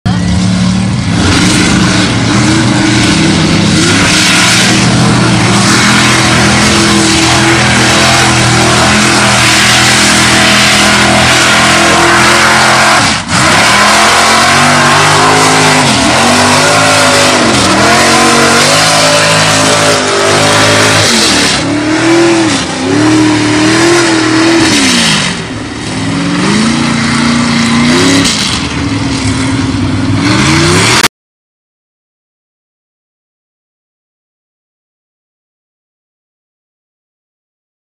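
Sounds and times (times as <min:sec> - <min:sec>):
truck engine revving under load: 0:00.1 - 0:31.1.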